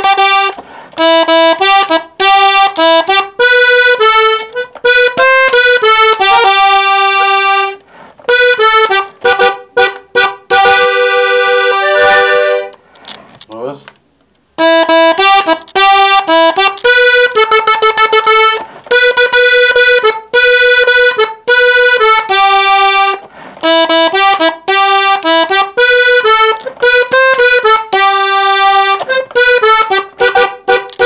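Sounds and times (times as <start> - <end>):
button accordion melody: 0.0 - 13.2, 14.6 - 31.0.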